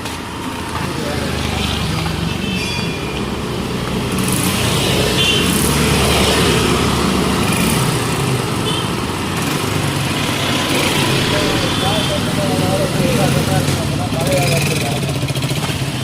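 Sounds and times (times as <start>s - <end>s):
motorbikes passing: 0.0s - 16.0s
passing motor vehicle engines: 0.0s - 16.0s
road noise: 0.0s - 16.0s.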